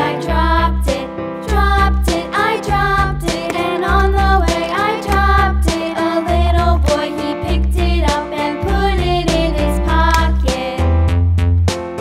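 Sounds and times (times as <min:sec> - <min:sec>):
children's music melody: 0:00.0 - 0:11.1.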